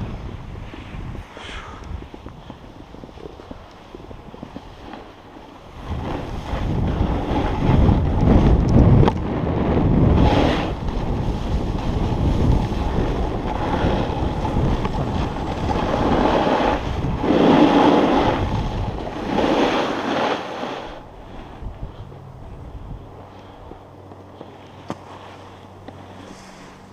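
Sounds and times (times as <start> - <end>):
snowboard sliding on snow: 0.0 - 23.7, 24.4 - 26.9
wind rushing over microphone: 0.0 - 26.9.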